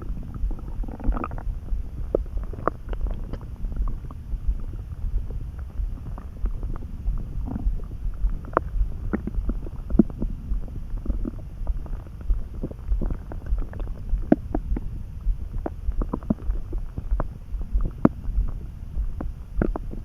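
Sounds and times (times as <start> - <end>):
stomach rumbling and gurgling: 0.0 - 20.0.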